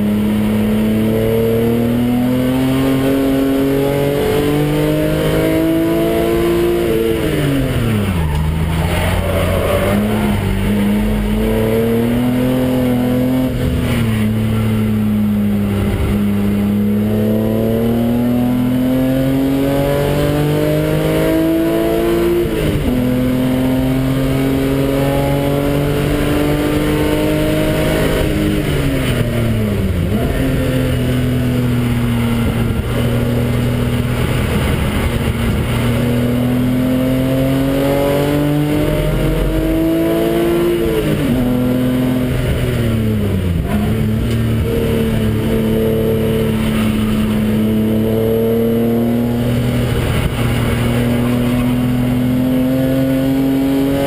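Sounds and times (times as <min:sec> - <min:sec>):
car engine pulling through gears: 0:00.0 - 0:54.0.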